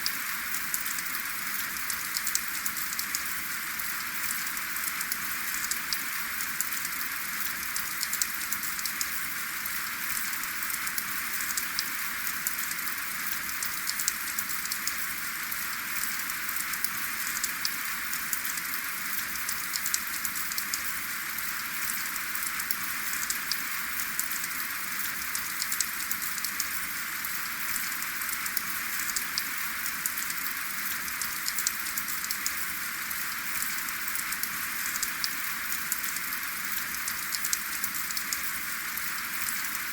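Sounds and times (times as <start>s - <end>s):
steady rain with ticking drops: 0.0s - 39.9s.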